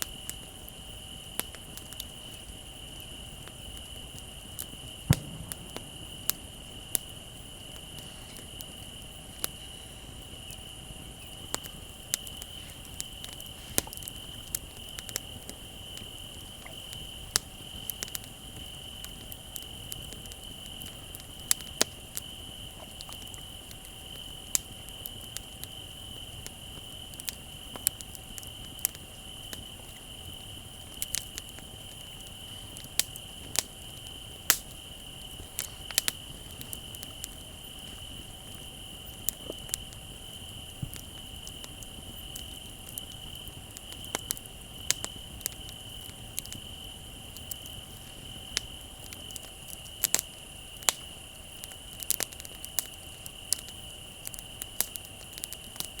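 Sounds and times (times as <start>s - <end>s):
crickets trilling: 0.0s - 56.0s
wood fire crackling: 0.0s - 56.0s.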